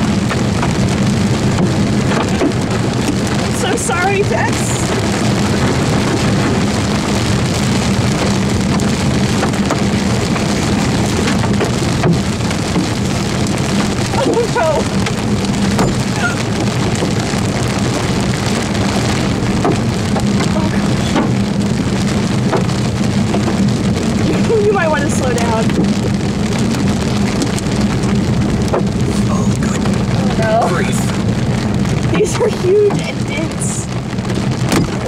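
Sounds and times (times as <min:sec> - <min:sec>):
engine and tyres on wet road: 0:00.0 - 0:35.0
heavy rain on vehicle roof: 0:00.0 - 0:35.0.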